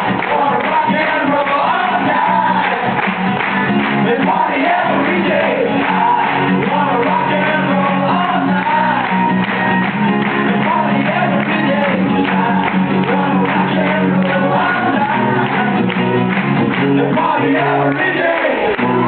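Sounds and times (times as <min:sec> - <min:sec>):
voices singing: 0:00.0 - 0:03.1, 0:03.8 - 0:09.6, 0:10.2 - 0:16.1, 0:16.7 - 0:19.0
live rock band playing: 0:00.0 - 0:17.9
strummed acoustic guitars: 0:00.0 - 0:19.0.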